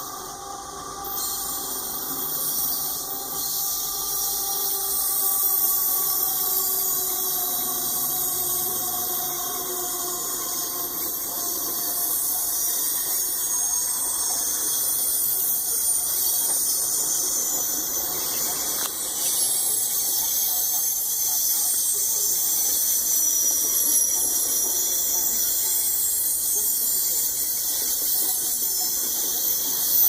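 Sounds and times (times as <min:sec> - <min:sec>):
rolling train cars rumbling: 0:00.0 - 0:30.0
train wheels squealing on rails: 0:00.0 - 0:30.0.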